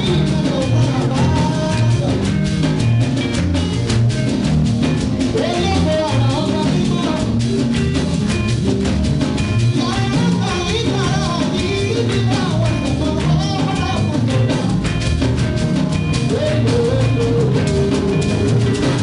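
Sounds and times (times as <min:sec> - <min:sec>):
live band with drums and bass: 0:00.0 - 0:19.0.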